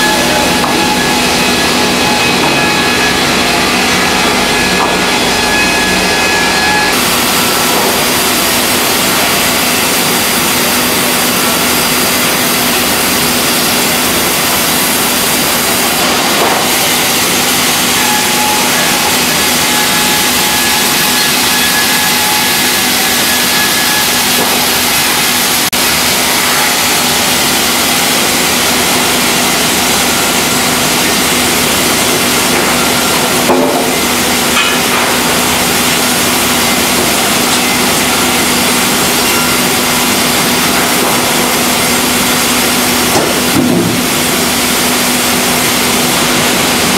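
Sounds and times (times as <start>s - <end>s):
band saw cutting log: 0.0s - 46.9s
machine hum: 0.0s - 46.9s.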